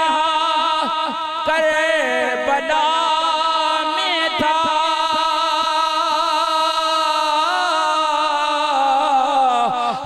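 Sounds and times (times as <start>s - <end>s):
man singing chant into microphone: 0.0s - 10.0s.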